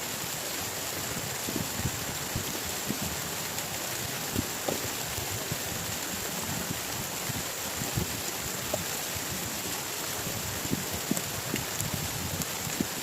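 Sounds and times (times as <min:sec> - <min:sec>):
heavy rain falling: 0:00.0 - 0:13.0
heavy raindrops tapping: 0:01.0 - 0:13.0.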